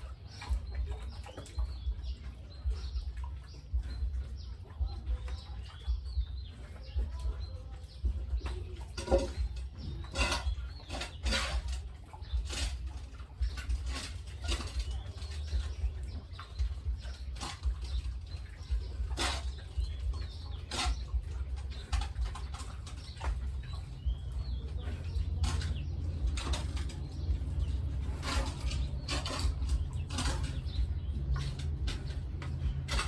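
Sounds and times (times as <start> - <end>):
chickens clucking: 0.0 - 33.0
low rumble: 0.0 - 33.0.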